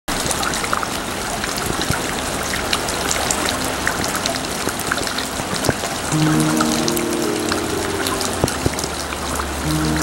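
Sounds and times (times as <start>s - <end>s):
raindrops striking and dripping: 0.1s - 10.0s
rain hissing: 0.3s - 10.0s.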